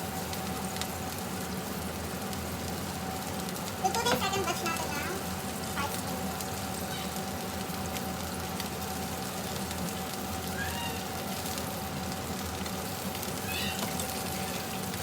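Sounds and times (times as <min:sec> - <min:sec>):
constant hum: 0:00.0 - 0:15.0
rice sizzling in a wok: 0:00.0 - 0:15.0.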